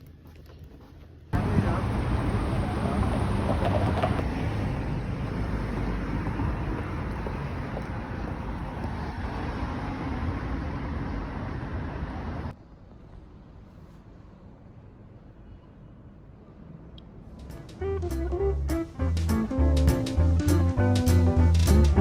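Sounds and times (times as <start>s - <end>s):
low rumbling road noise: 1.2s - 22.0s.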